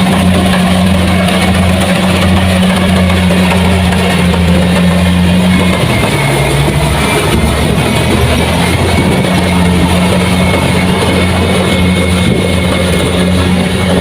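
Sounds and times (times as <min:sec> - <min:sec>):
combine harvester diesel engine: 0:00.0 - 0:14.0.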